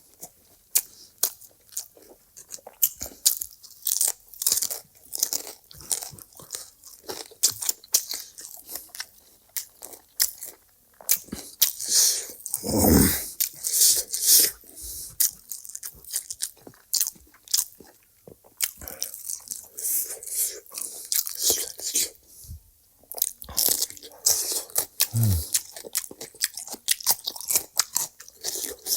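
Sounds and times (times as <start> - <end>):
crunching and chewing crisp food: 0.0 - 28.9.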